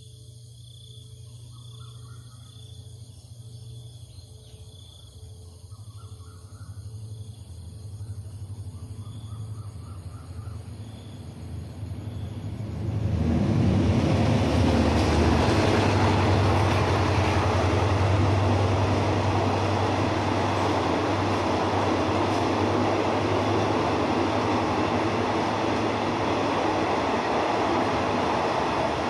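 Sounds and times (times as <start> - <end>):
train coaches rumbling on rails: 5.3 - 29.0.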